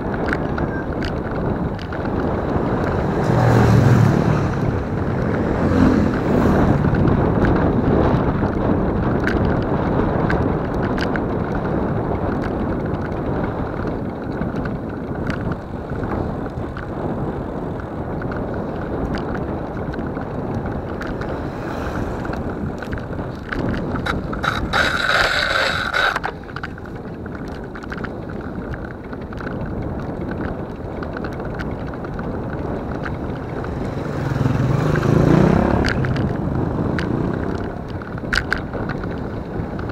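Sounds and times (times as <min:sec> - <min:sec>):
vehicle road noise: 0:00.0 - 0:39.9
wind buffeting microphone: 0:00.0 - 0:39.9.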